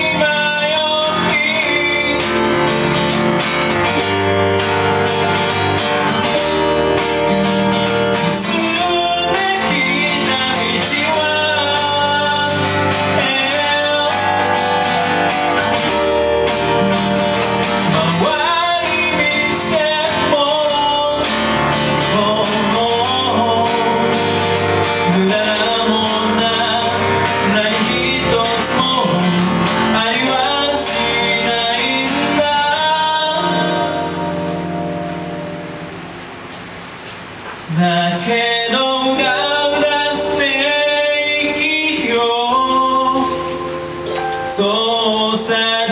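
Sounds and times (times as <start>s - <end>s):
man singing: 0.0s - 4.9s, 7.9s - 34.8s, 37.6s - 45.9s
acoustic guitar strumming: 0.0s - 45.9s
electronic keyboard: 0.0s - 45.9s.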